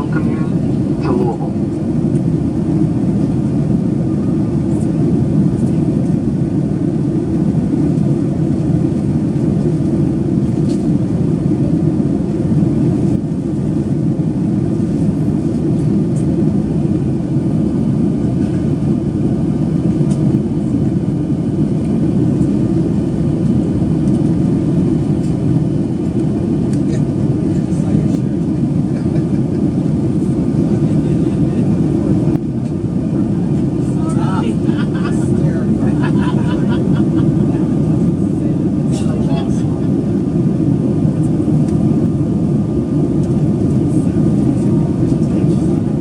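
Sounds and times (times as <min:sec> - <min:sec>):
airplane cabin airflow and engine drone: 0:00.0 - 0:46.0.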